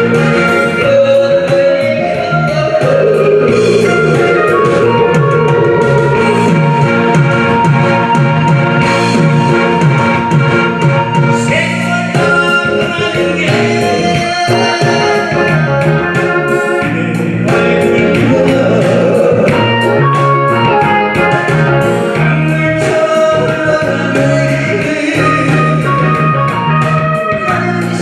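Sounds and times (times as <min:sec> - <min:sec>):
backing track with steady beat: 0:00.0 - 0:28.0
person singing: 0:00.0 - 0:28.0.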